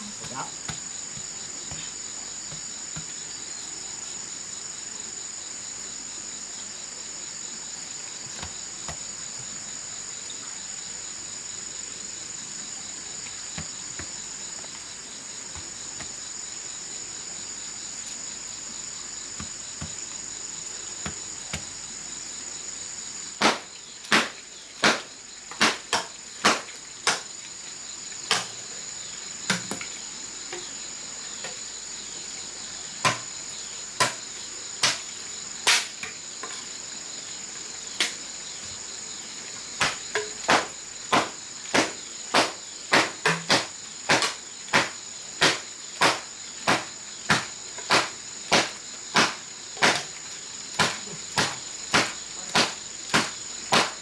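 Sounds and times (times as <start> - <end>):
insect chorus trilling: 0.0 - 54.0.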